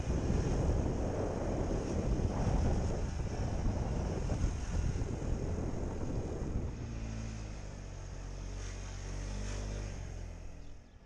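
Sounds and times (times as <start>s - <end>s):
motor scooter engine humming: 0.0s - 11.0s
wind buffeting microphone: 0.0s - 11.0s.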